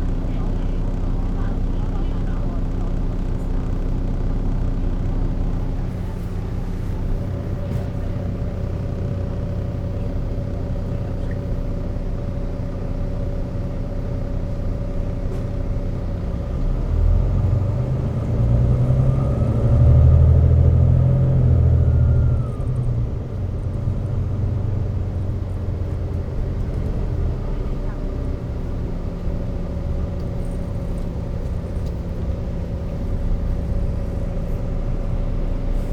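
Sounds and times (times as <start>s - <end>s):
bus diesel engine humming: 0.0s - 35.9s
faint engine whine: 0.0s - 35.9s.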